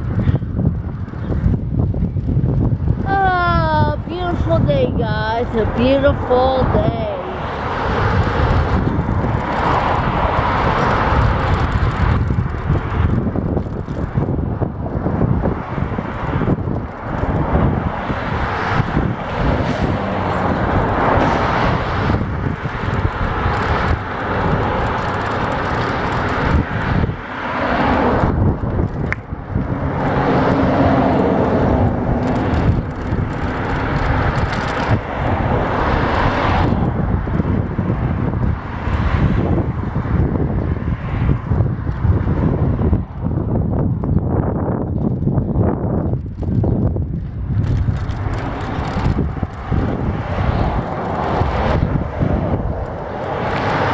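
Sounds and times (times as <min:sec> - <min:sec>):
bicycle road noise: 0:00.0 - 0:53.9
traffic passing: 0:00.0 - 0:53.9
wind buffeting microphone: 0:00.0 - 0:53.9.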